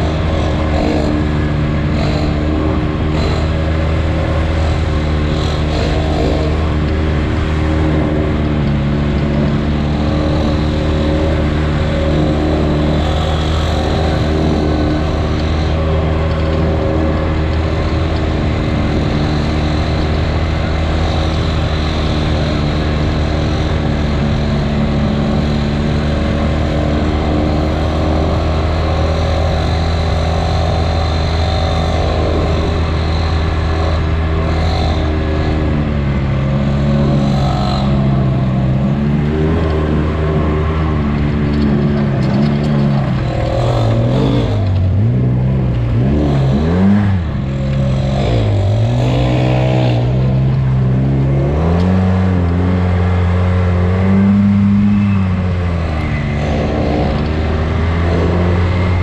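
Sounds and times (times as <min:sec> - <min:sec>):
utility vehicle engine running: 0:00.0 - 0:59.0.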